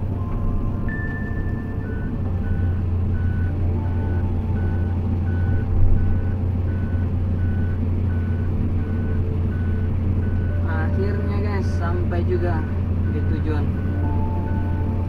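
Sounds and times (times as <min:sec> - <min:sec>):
diesel engine running: 0:00.0 - 0:15.0
travel alarm beeping: 0:00.2 - 0:15.0.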